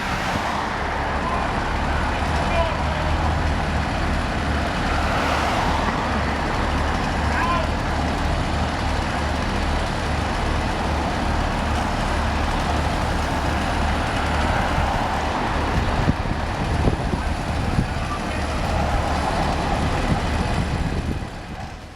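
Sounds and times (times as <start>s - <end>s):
vehicle engine and road noise: 0.0s - 21.9s.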